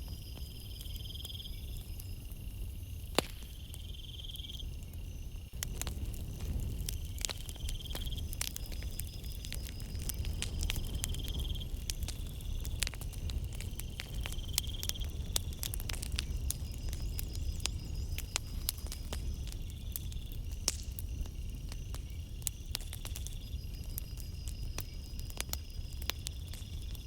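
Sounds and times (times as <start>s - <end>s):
campfire crackling and popping: 0.0s - 27.0s
insects trilling: 0.0s - 27.0s.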